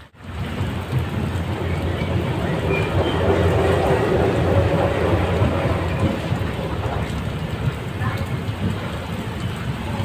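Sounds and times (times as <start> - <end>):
heavy rain pouring: 0.0 - 10.0
train coach rumbling: 0.0 - 10.0.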